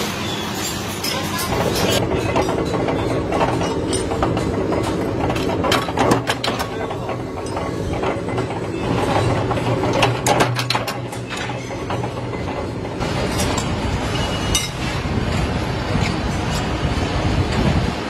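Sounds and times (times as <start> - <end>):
workshop machinery humming: 0.0 - 18.0.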